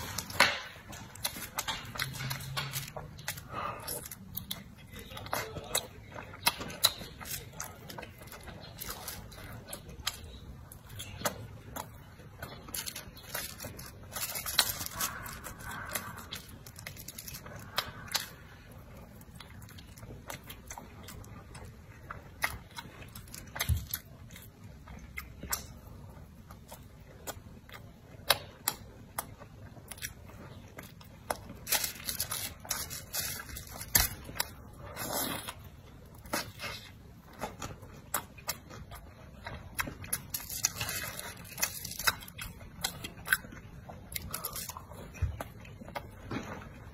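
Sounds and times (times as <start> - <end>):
chewing and biting buns: 0.0 - 46.9.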